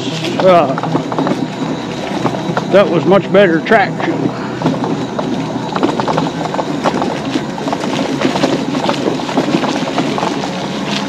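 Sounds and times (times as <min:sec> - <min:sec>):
scooter rattling on dirt trail: 0:00.0 - 0:11.0.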